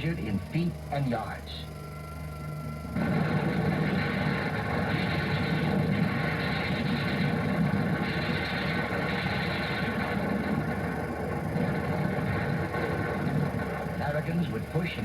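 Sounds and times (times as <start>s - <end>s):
engine-like rumble: 0.0s - 15.0s.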